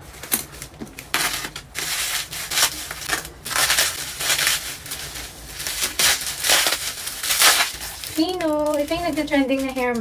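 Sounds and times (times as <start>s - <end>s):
bubble wrap crinkling: 0.1s - 10.0s.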